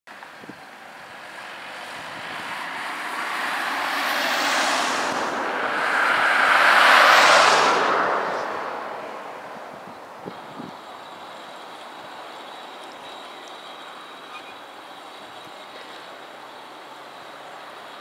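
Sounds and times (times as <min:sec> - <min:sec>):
cars driving past: 0:00.2 - 0:18.0.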